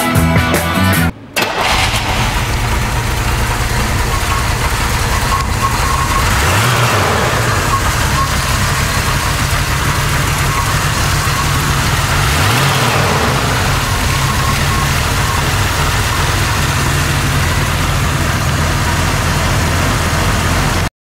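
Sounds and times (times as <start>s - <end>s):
engine idling: 1.2s - 20.9s.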